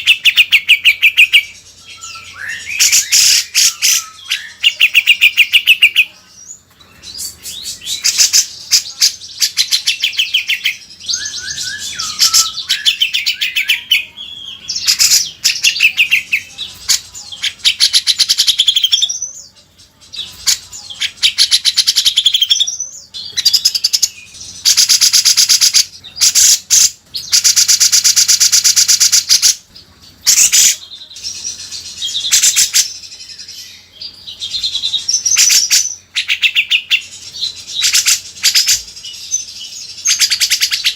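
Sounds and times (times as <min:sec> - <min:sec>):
bird singing with trills: 0:00.0 - 0:40.9.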